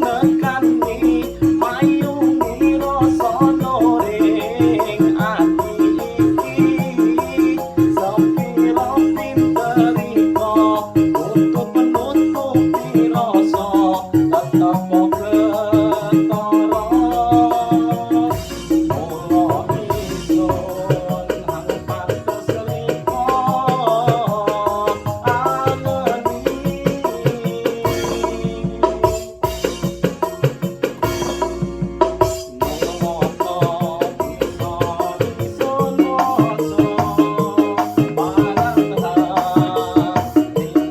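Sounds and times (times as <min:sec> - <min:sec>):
keyboard melody: 0:00.0 - 0:40.9
programmed hand-drum rhythm: 0:00.0 - 0:40.9
shaker rhythm: 0:00.0 - 0:40.9.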